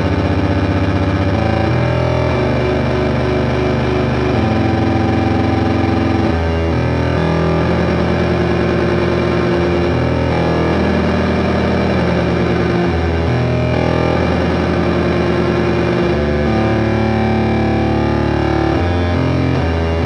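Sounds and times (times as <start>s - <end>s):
low bass: 0.0s - 20.0s
synthesizer chords: 0.0s - 20.0s.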